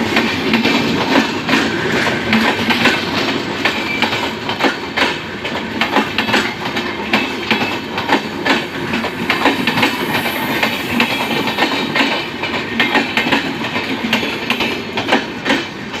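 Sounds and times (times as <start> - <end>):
train rumble: 0.0 - 16.0
train wheels clacking over rail joints: 0.0 - 16.0.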